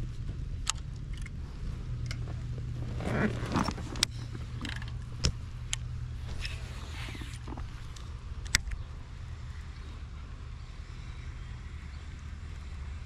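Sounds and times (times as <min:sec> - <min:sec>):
boat engine low hum: 0:00.0 - 0:13.0.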